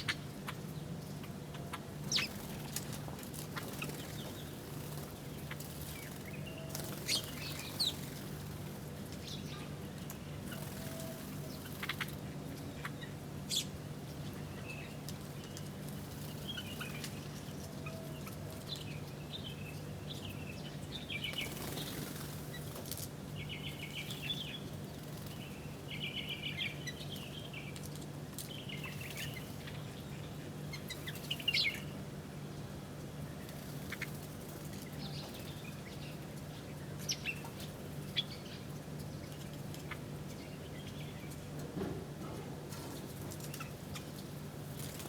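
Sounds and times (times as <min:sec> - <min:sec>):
small birds chirping: 0:00.0 - 0:32.0, 0:33.2 - 0:41.6, 0:42.7 - 0:45.0.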